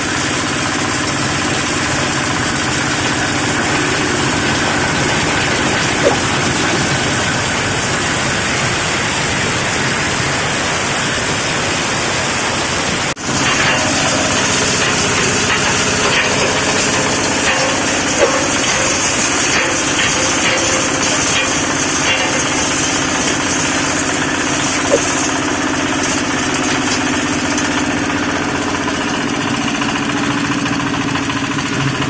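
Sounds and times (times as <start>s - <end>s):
diesel engine driving grinder: 0.0s - 32.0s.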